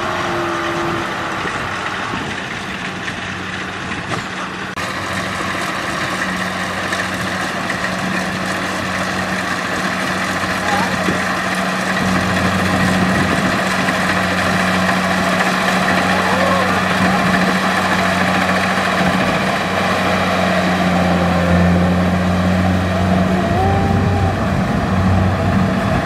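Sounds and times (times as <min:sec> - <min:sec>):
combine harvester engine droning: 0:00.0 - 0:26.0
tractor engine running: 0:00.0 - 0:26.0.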